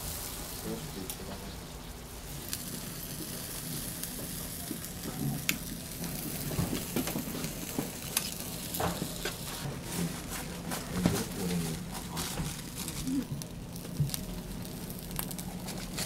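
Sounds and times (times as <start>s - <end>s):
batter sizzling in hot molds: 0.0s - 16.0s.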